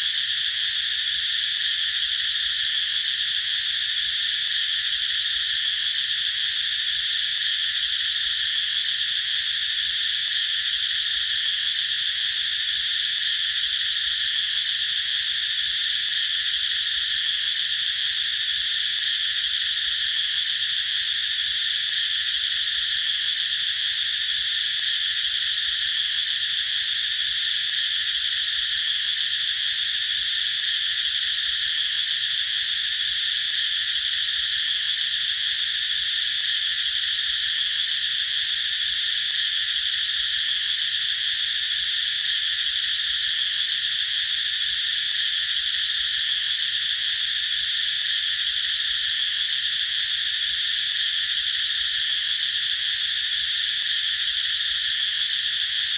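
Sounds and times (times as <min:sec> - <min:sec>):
cicadas buzzing: 0:00.0 - 0:55.9.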